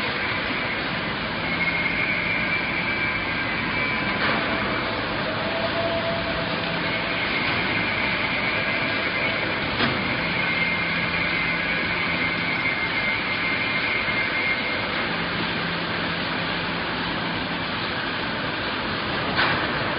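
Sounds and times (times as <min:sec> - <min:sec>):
faint high whine: 0:00.0 - 0:17.7.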